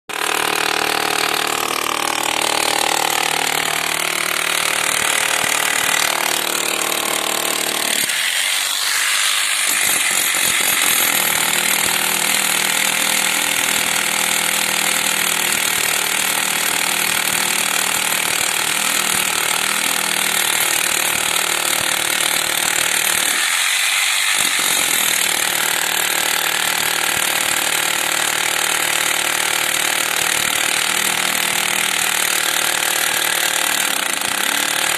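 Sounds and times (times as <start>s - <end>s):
demolition hammer breaking concrete: 0.1s - 34.9s.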